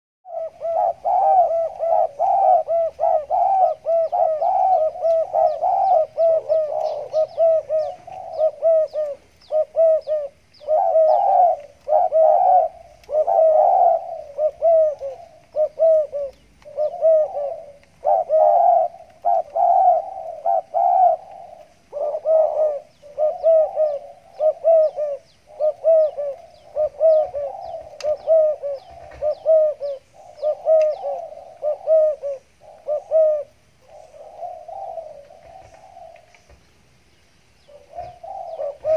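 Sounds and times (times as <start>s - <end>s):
dove cooing: 0.3s - 36.7s, 37.6s - 38.9s.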